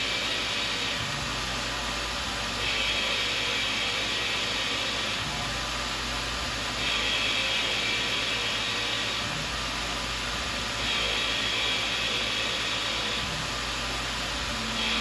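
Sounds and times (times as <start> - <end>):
milling machine hum: 0.0 - 15.0.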